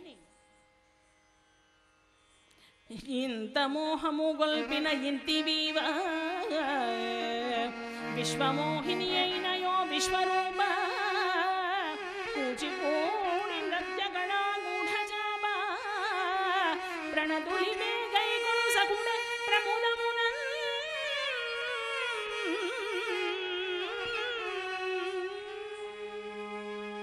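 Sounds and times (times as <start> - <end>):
indian classical melody: 0.0 - 27.0.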